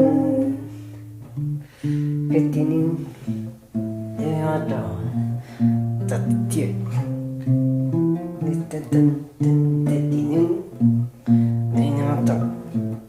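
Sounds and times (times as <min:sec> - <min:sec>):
plucked guitar notes and chords: 0:00.0 - 0:13.0.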